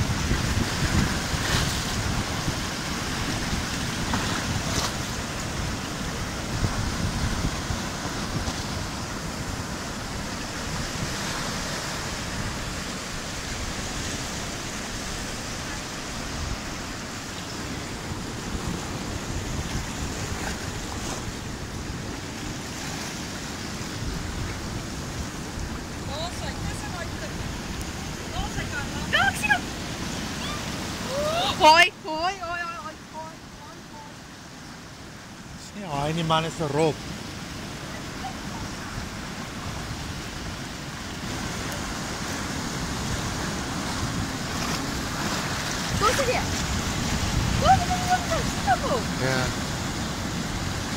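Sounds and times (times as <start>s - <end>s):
wind buffeting microphone: 0.0s - 33.7s, 37.2s - 50.9s
surf washing over rocks: 0.0s - 50.9s.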